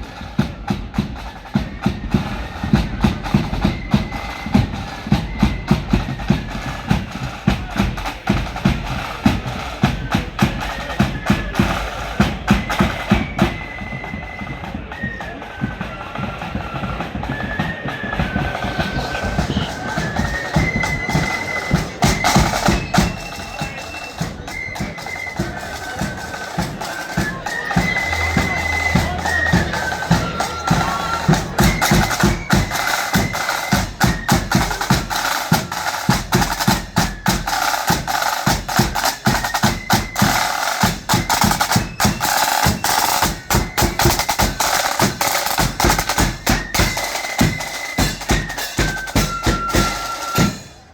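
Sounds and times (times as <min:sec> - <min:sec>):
marching band playing: 0:00.0 - 0:50.9
snare and bass drums: 0:00.0 - 0:50.9.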